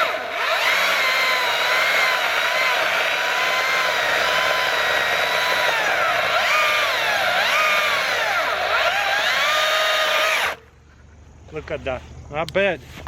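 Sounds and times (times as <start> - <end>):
electric chainsaw cutting log: 0.0 - 10.6.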